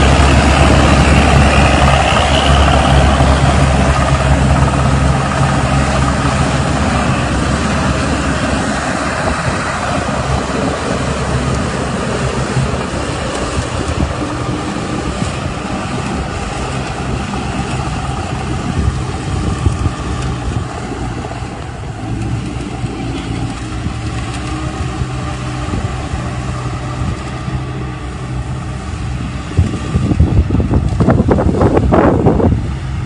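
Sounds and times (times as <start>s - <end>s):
loud mechanical rattle: 0.0s - 32.6s
diesel engine running: 0.0s - 33.0s.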